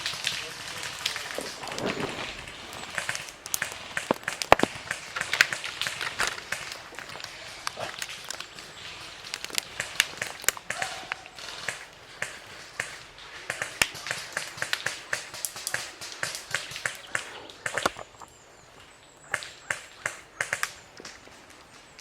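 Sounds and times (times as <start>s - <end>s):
airsoft guns firing: 0.0s - 18.1s.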